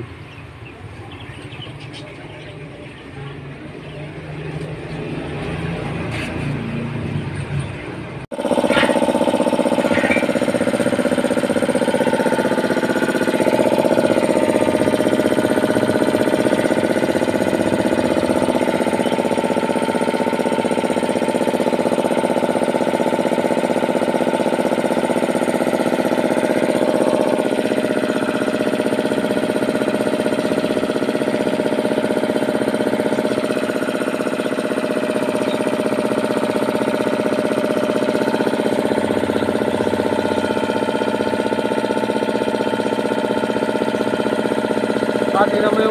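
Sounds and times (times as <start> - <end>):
air compressor running: 0.0 - 7.2, 8.2 - 45.9.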